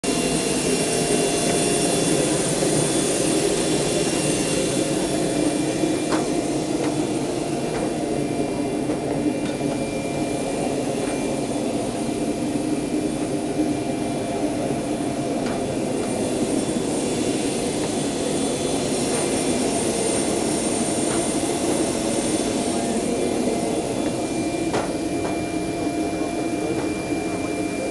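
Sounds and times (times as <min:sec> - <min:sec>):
jet turbine running: 0:00.0 - 0:27.9.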